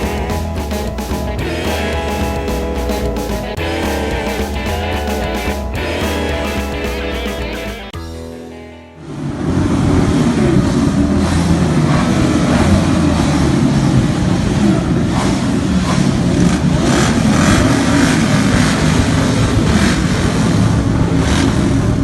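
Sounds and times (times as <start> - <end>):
vehicle engines revving: 0.0 - 8.0, 9.1 - 22.0.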